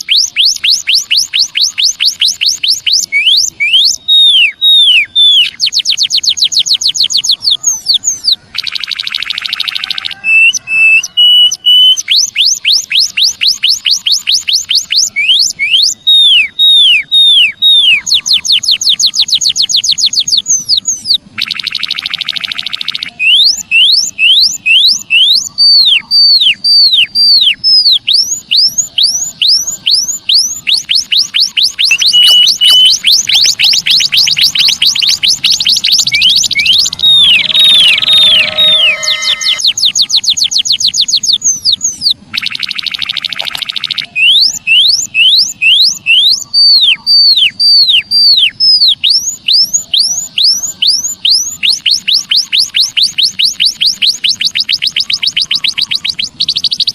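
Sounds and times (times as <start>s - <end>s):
high downslurred bird whistles: 0.0s - 56.9s.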